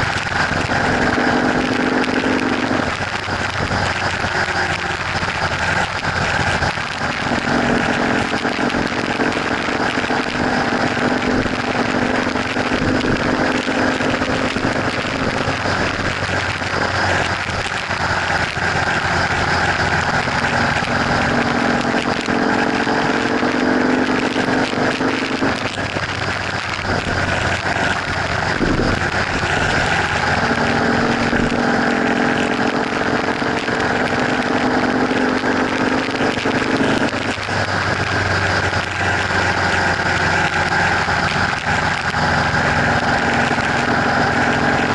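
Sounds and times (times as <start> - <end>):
motorcycle engine hum: 0.0 - 44.9
wind rushing over microphone: 0.0 - 44.9.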